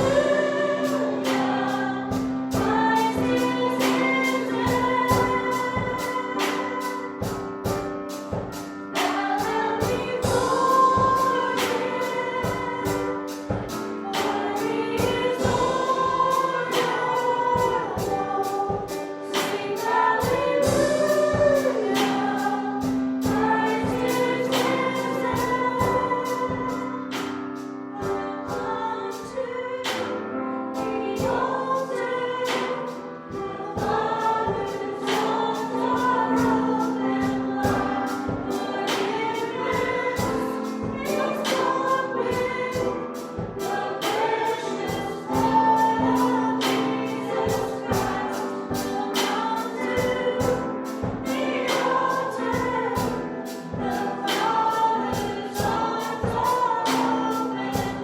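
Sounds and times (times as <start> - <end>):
voices singing together: 0.0 - 58.0
worship band playing: 0.0 - 58.0.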